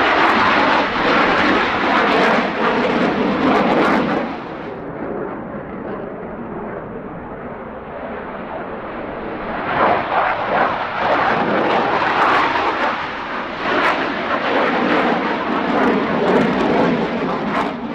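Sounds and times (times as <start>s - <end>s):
jet engine rumble with crackling: 0.0s - 17.9s.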